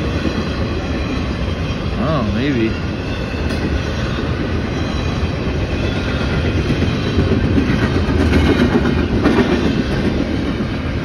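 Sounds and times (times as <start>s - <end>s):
freight train cars rolling past: 0.0s - 11.0s.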